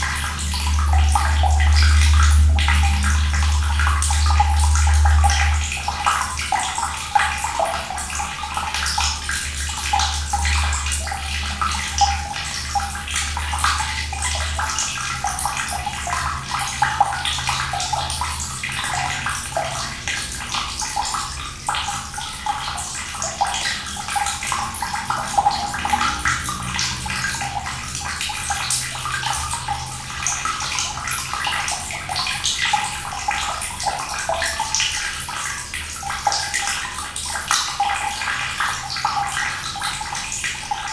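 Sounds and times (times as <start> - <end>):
water running and splashing: 0.0 - 40.9.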